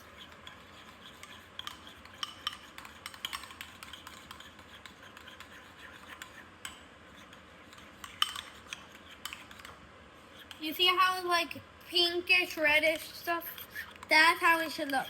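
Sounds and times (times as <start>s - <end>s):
utensil clinking and scraping bowl: 0.0s - 10.6s, 12.9s - 15.0s.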